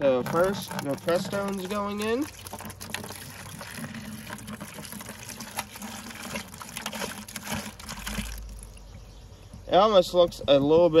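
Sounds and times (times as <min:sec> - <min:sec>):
liquid pouring into plastic bucket: 0:00.0 - 0:08.8.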